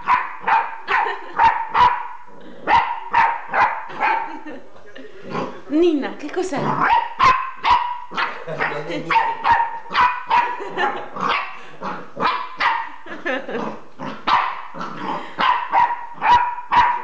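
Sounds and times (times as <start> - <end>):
puppy barking excitedly: 0.0 - 4.5, 6.7 - 13.0, 14.1 - 17.0.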